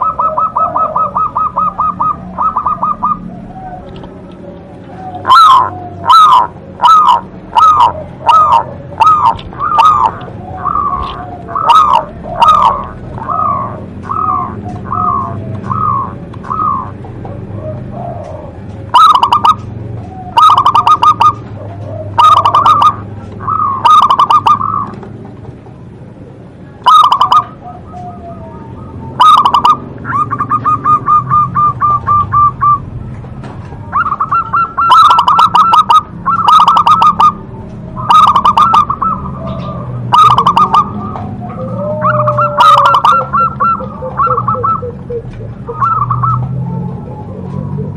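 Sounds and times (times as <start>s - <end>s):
dove cooing: 0.0s - 47.9s
dove trilling: 0.0s - 47.9s.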